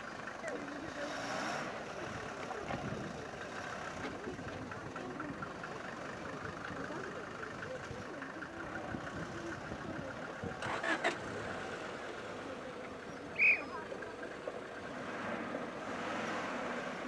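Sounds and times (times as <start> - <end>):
car engine running at low speed: 0.0 - 17.0.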